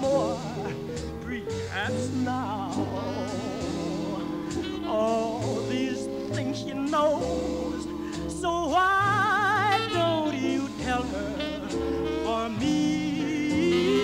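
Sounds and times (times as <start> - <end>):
band playing: 0.0 - 14.0
person singing blues: 0.0 - 14.0.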